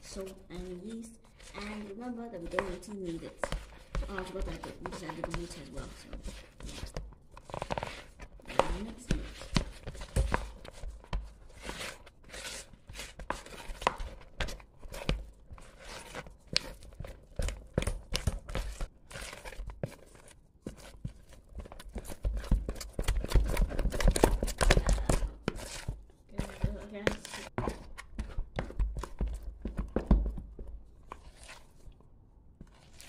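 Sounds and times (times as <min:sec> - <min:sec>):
wooden spoon stirring dough: 0:00.0 - 0:33.0.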